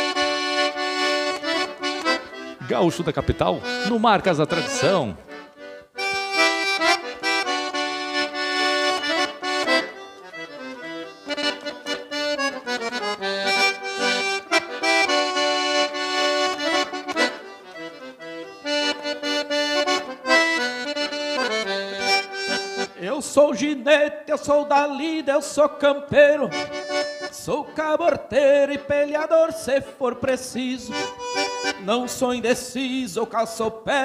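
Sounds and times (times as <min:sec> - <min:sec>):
accordion playing chords: 0:00.0 - 0:33.6.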